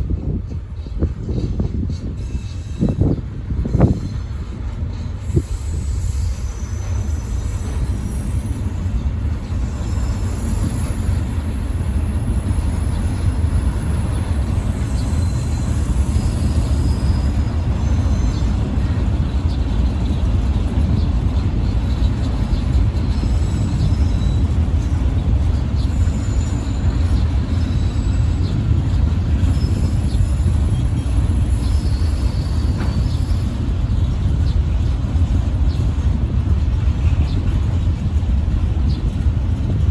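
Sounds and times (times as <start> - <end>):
diesel locomotive rumbling: 0.0 - 39.9.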